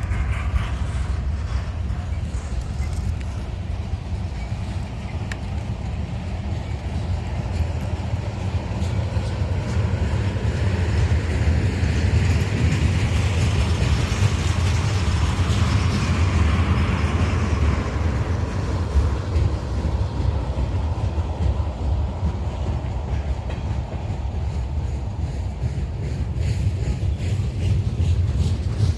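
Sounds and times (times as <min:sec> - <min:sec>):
freight train rolling past: 0:00.0 - 0:28.9.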